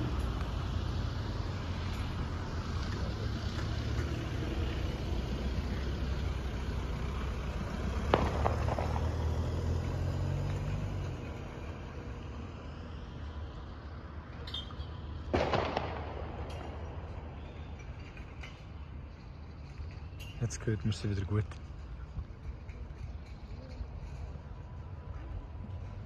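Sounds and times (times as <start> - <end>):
motor vehicle rumbling: 0.0 - 26.0.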